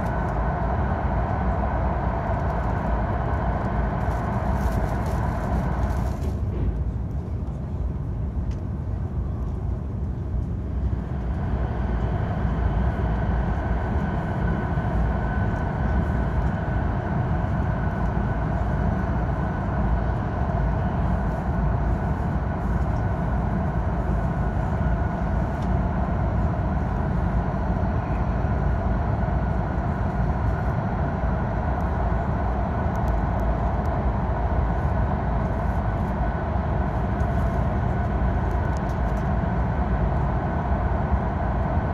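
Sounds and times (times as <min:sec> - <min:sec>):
rushing air: 0:00.0 - 0:07.1, 0:10.7 - 0:41.9
faint steady whine: 0:00.0 - 0:41.9
train wheels rumbling: 0:00.0 - 0:41.9.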